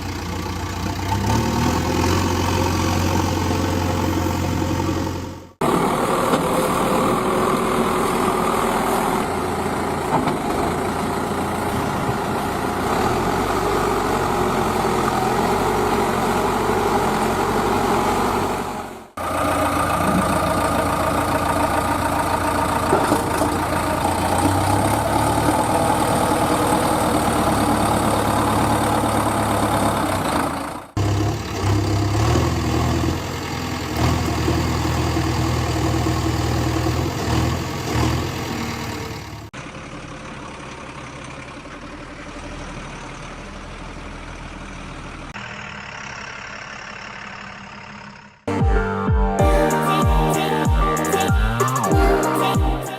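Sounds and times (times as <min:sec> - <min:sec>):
heavy diesel machinery engines: 0:00.0 - 0:49.0.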